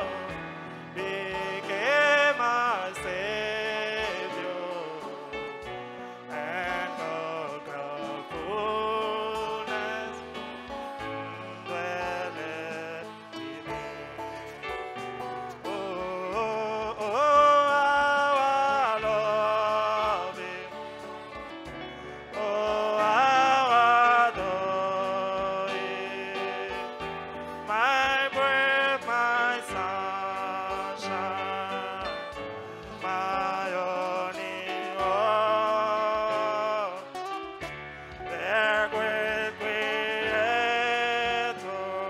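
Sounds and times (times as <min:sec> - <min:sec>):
instrumental backing with low beat: 0:00.0 - 0:42.0.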